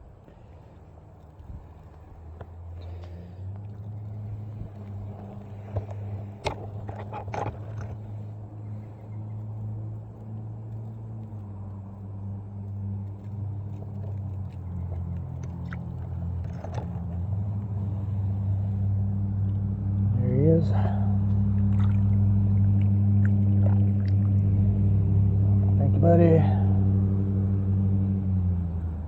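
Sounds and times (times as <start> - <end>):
low engine-like hum: 0.0 - 29.0.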